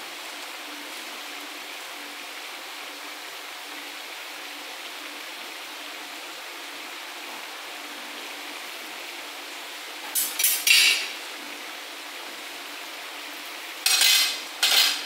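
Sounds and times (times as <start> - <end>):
rice and broth bubbling: 0.0 - 15.0.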